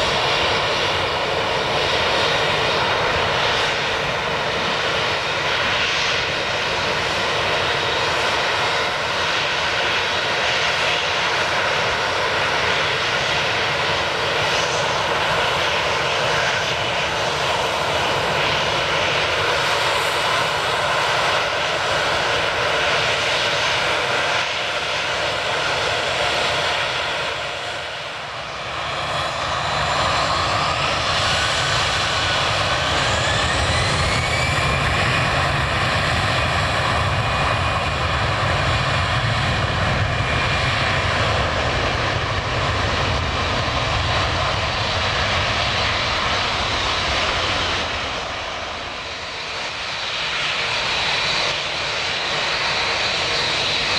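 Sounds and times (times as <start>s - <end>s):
jet engines running at high power: 0.0s - 53.9s.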